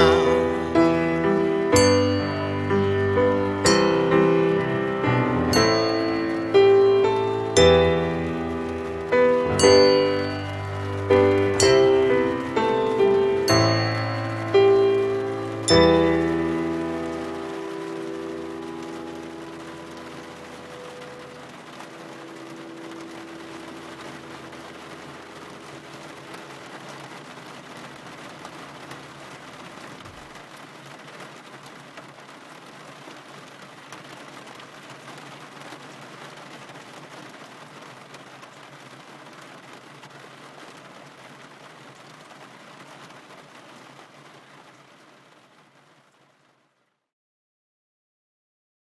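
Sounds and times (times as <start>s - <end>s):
raindrops ticking: 0.0s - 46.8s
steady rain: 0.0s - 47.1s.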